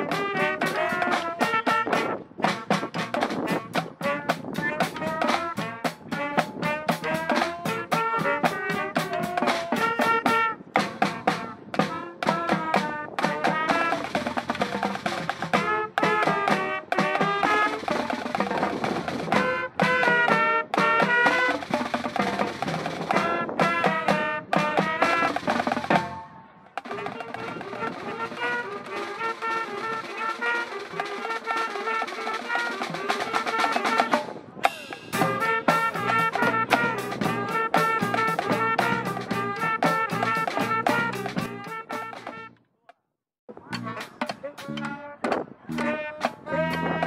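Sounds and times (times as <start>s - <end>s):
band playing up-tempo tune: 0.0s - 42.5s, 43.6s - 47.0s
marching drums: 0.0s - 42.5s.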